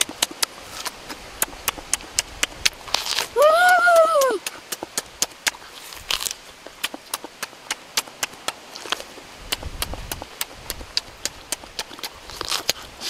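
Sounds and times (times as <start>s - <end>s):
open-mouthed chewing and lip smacking: 0.0s - 13.0s.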